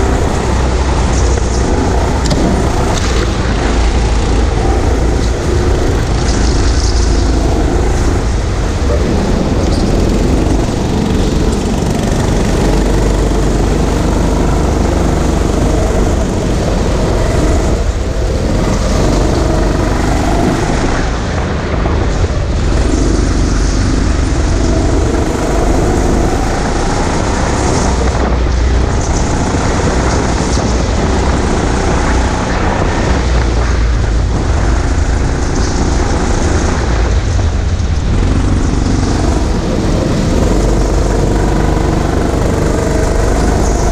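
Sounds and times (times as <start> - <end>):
go-kart engine revving: 0.0 - 43.9
heavy low rumble: 0.0 - 43.9.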